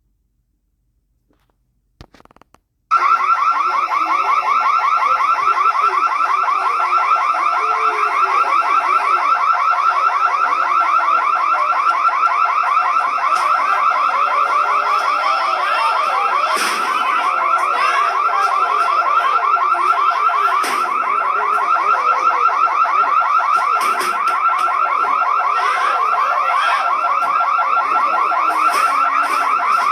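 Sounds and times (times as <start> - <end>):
pulsing electronic alarm: 2.9 - 29.9.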